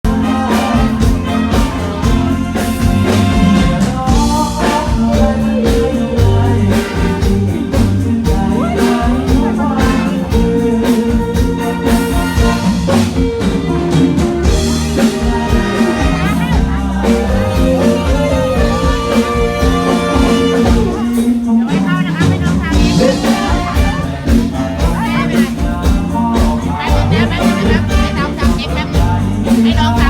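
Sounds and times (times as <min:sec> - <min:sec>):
drum kit beat: 0:00.0 - 0:30.0
live band playing loudly: 0:00.0 - 0:30.0
person singing: 0:00.0 - 0:30.0.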